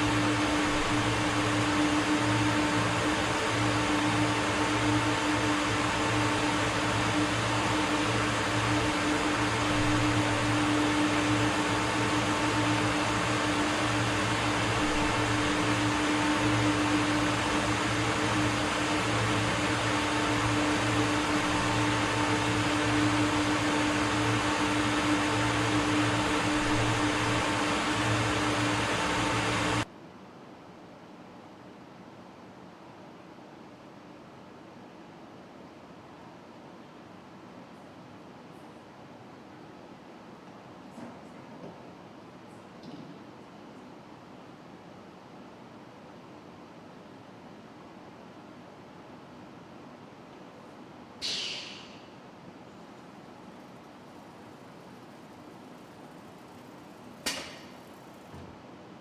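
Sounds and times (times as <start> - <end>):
machinery humming and hissing: 0.0 - 29.9, 37.3 - 59.0.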